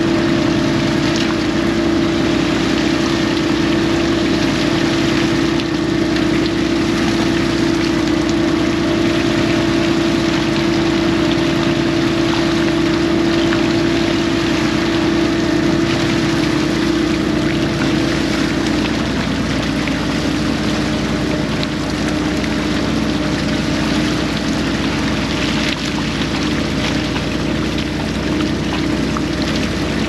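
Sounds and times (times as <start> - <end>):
boat engine running: 0.0 - 30.0
water splashing: 0.0 - 30.0.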